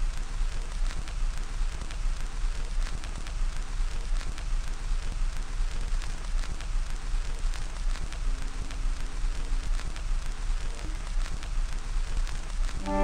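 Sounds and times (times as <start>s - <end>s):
record surface crackle and hiss: 0.0s - 13.0s.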